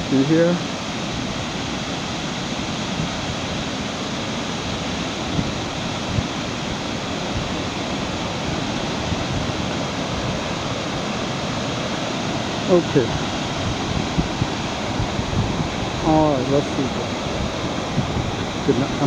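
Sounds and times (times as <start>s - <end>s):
waterfall rushing: 0.0s - 19.0s
wind on microphone: 0.0s - 19.0s.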